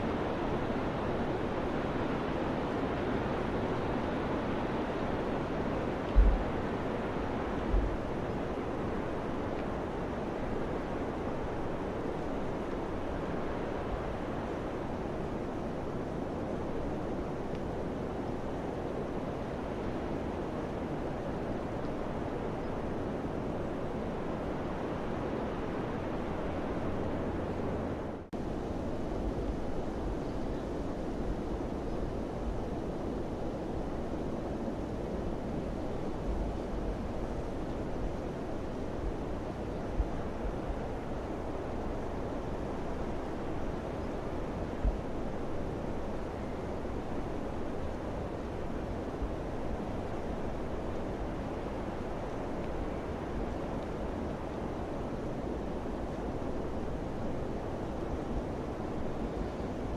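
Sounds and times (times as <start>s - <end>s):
wind gusts buffeting microphone: 0.0s - 59.9s.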